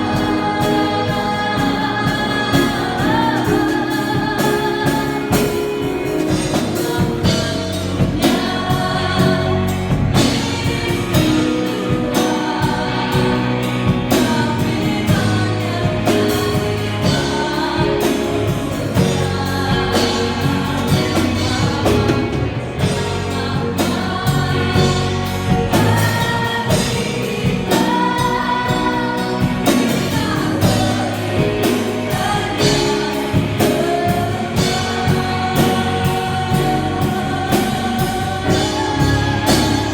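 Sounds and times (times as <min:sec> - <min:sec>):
choir singing gospel song: 0:00.0 - 0:39.9
instrumental accompaniment with beat: 0:00.0 - 0:39.9.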